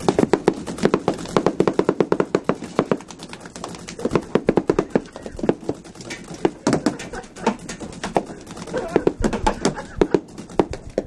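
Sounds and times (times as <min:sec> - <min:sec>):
rapid paintball pops: 0:00.0 - 0:11.0.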